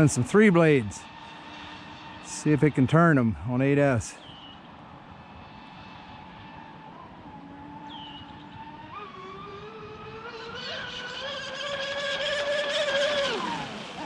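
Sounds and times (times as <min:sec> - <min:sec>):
electric boat motor whine: 0:00.0 - 0:03.1, 0:04.2 - 0:14.0.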